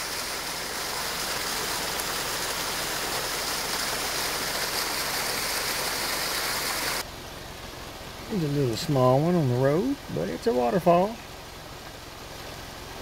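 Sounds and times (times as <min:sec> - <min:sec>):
water rushing from waterfall: 0:00.0 - 0:13.0.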